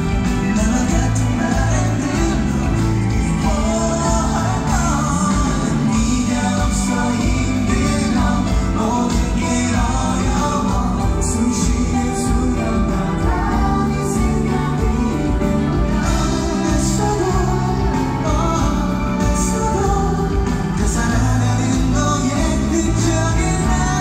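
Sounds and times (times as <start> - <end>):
man singing into a microphone: 0.0 - 24.0
pop backing music: 0.0 - 24.0.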